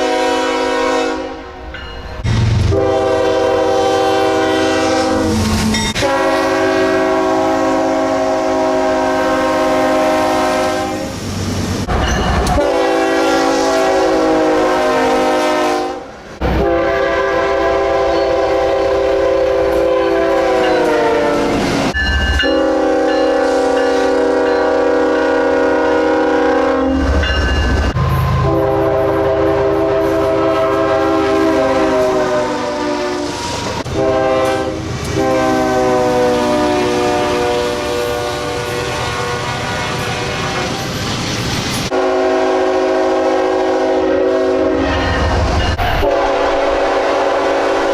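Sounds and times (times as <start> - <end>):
locomotive horn blasts: 0.0 - 1.6, 2.6 - 11.2, 12.4 - 21.6, 22.4 - 27.2, 28.0 - 40.8, 41.9 - 45.1, 45.8 - 47.9.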